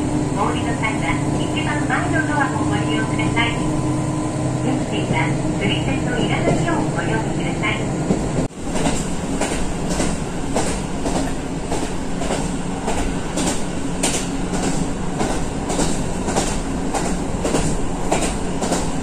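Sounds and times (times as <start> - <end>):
diesel railcar engine rumble: 0.0 - 19.0.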